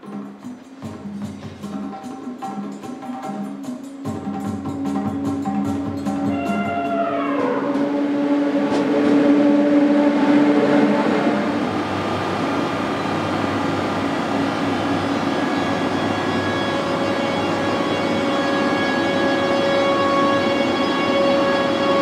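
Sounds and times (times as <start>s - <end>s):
electric locomotive humming: 0.0s - 22.0s.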